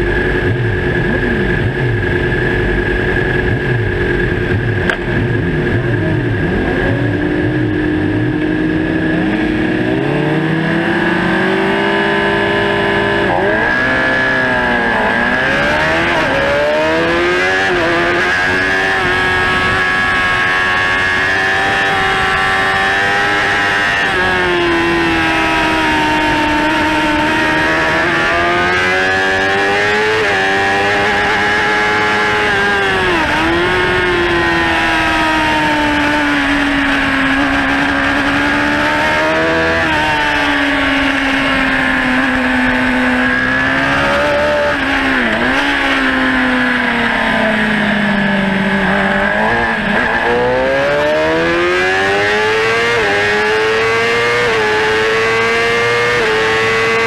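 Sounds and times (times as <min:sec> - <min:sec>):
racing motorcycle engine at high revs: 0:00.0 - 0:57.0.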